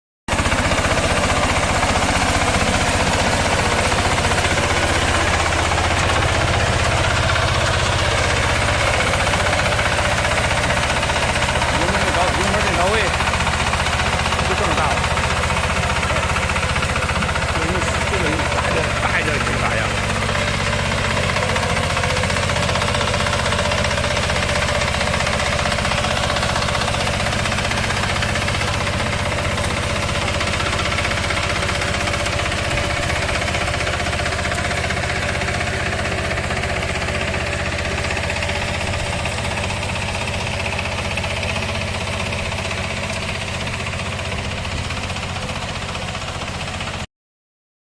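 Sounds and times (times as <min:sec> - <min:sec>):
tractor diesel engine running: 0:00.3 - 0:47.1.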